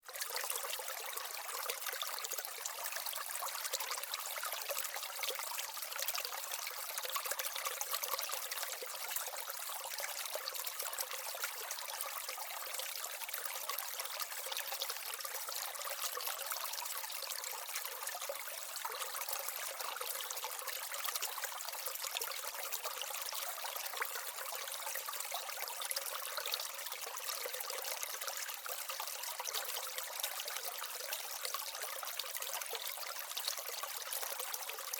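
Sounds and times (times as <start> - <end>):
small waterfall trickling: 0.0 - 34.9.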